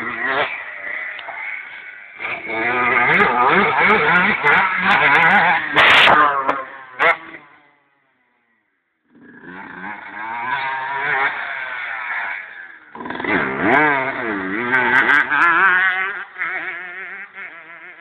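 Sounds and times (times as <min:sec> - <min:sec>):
two-stroke motorbike engine revving: 0:00.0 - 0:07.9, 0:09.1 - 0:18.0.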